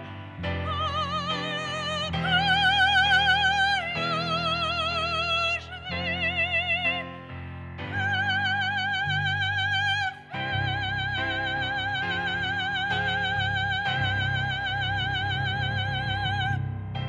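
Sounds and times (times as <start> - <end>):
bass: 0.0 - 17.0
piano: 0.0 - 17.0
woman singing with vibrato: 0.6 - 7.0, 7.9 - 16.6.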